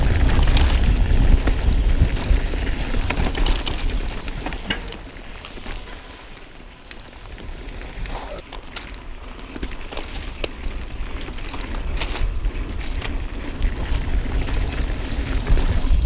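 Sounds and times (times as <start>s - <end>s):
bike rattling with clicks: 0.0s - 16.0s
low wind rumble on microphone: 0.0s - 16.0s
tyres crackling over gravel: 0.0s - 16.0s.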